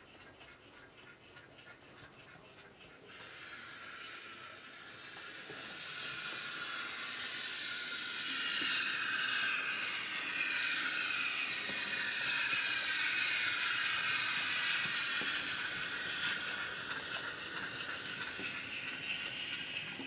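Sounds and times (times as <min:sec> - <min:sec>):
model train running on track: 0:00.0 - 0:20.0
model train steam sound effect: 0:00.0 - 0:20.0.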